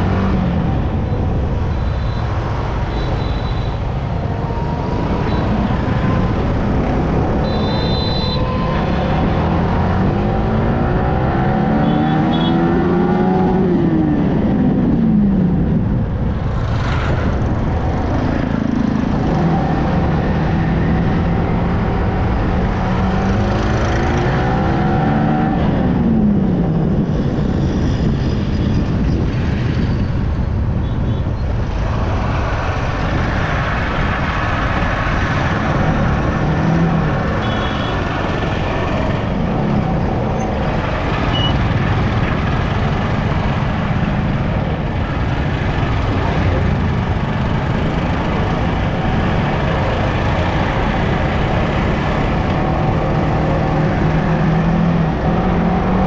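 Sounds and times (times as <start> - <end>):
road rumble: 0.0 - 56.0
wind: 0.0 - 56.0.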